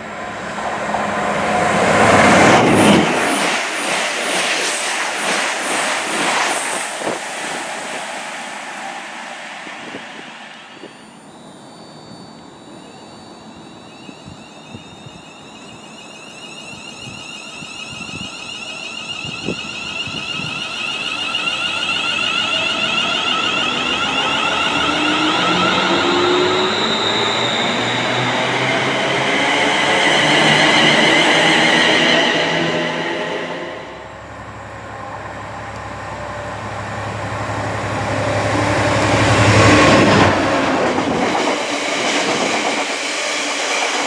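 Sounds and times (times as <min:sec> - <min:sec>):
diesel train rushing past: 0:00.0 - 0:44.0
electric train motors whining: 0:00.0 - 0:44.0.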